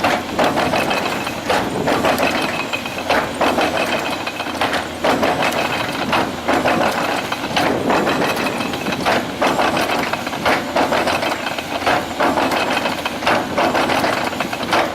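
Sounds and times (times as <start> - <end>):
excavator diesel engine running: 0.0 - 14.9
excavator knocks and clatter: 0.0 - 14.9.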